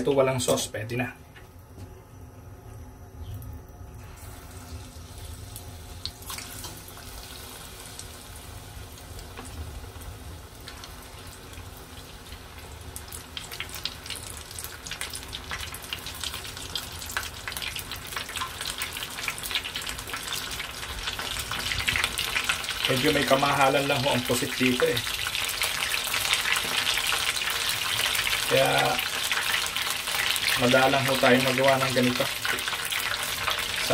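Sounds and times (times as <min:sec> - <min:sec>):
oil sizzling and bubbling: 0:02.5 - 0:33.9.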